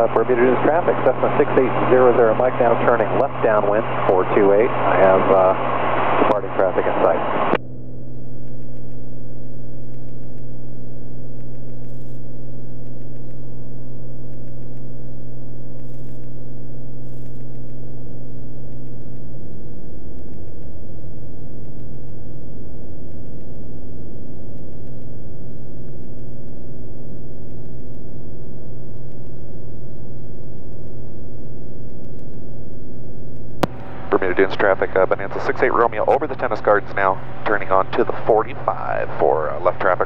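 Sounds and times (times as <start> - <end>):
airplane engine and propeller drone: 0.0 - 40.0.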